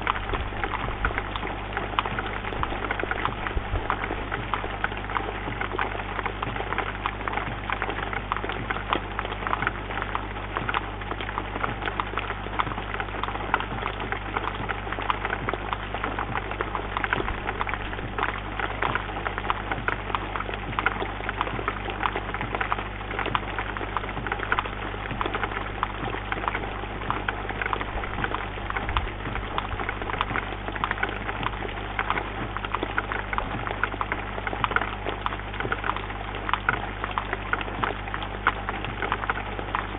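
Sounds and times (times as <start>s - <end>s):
rain pattering on bird feeder: 0.0s - 39.9s.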